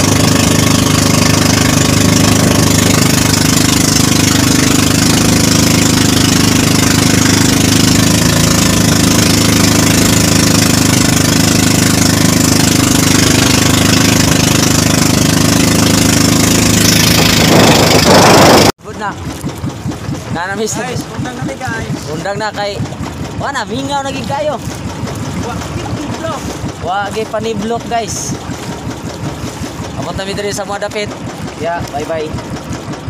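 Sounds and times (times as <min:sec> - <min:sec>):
boat engine droning: 0:00.0 - 0:33.0
wind and water hiss: 0:00.0 - 0:33.0.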